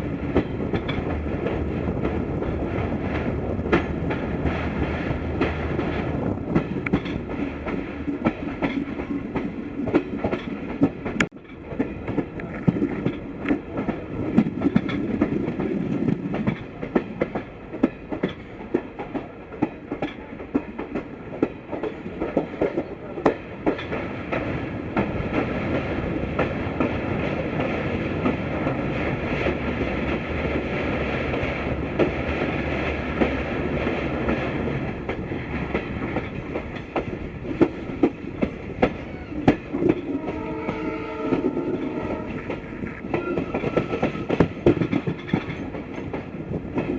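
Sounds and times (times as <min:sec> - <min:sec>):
train coach rumbling: 0:00.0 - 0:46.9
wheels clicking over rail joints: 0:00.0 - 0:46.9.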